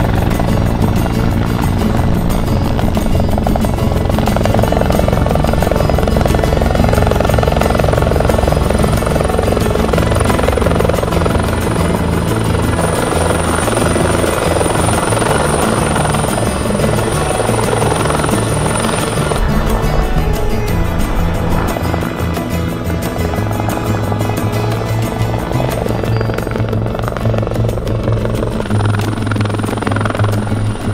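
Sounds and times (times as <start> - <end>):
helicopter rotor beating: 0.0 - 30.9
high steady whine: 0.0 - 30.9.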